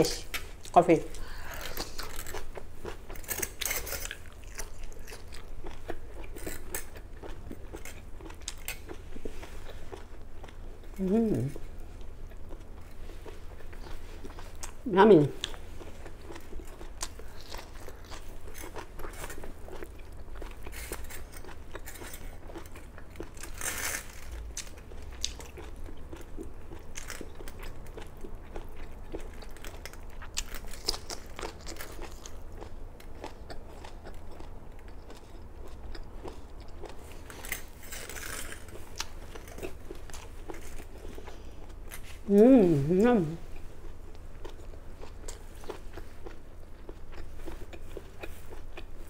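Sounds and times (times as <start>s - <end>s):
person chewing crunchy vegetables: 0.1s - 42.3s, 43.3s - 49.0s.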